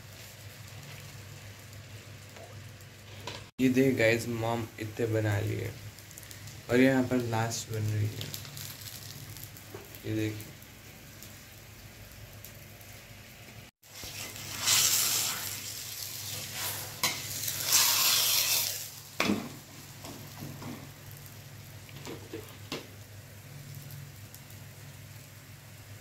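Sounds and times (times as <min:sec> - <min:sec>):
flatbread sizzling on a pan: 0:00.0 - 0:26.0.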